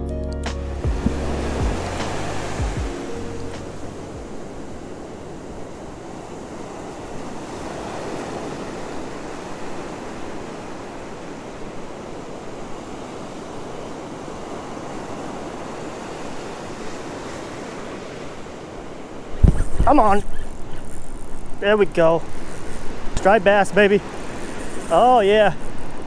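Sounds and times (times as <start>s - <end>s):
ocean surf breaking: 0.7s - 26.0s.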